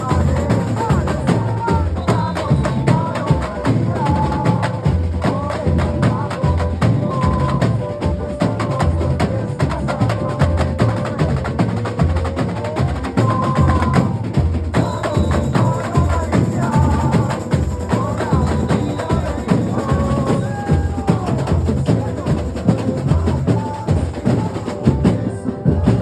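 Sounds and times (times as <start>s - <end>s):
pitched melody line: 0.0s - 26.0s
samba percussion band: 0.0s - 26.0s.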